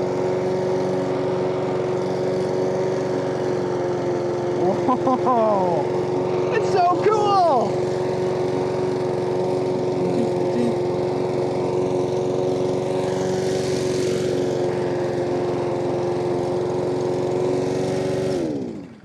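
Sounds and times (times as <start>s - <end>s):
mower cutting grass: 0.0s - 19.0s
push mower engine running: 0.0s - 19.0s.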